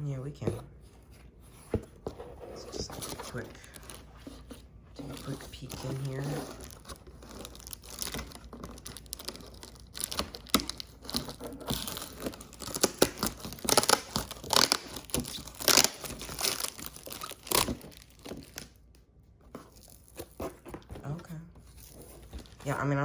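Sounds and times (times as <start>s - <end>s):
cardboard box packaging rustling: 0.4s - 23.0s.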